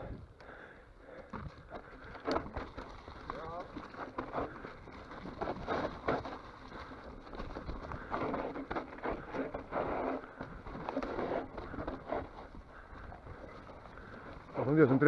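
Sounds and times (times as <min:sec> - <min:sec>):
bike tyres crunching over stones: 0:00.5 - 0:15.0
bike rattling and knocking: 0:01.3 - 0:15.0.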